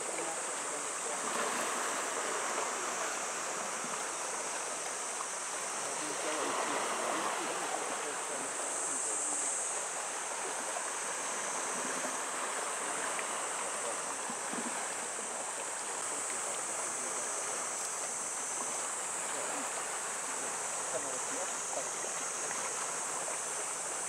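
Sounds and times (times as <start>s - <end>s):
high-pitched hiss: 0.0s - 24.0s
sea water washing on shore: 0.0s - 24.0s.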